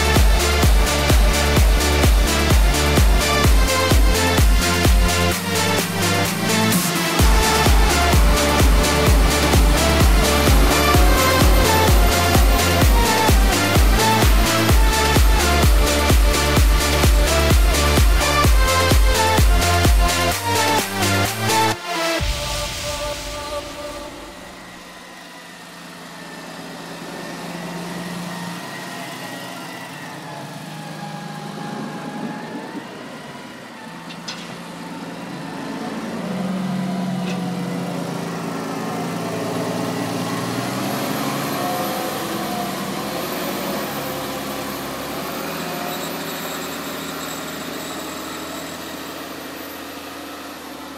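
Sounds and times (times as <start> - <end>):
farm machinery engines running: 0.0 - 50.9.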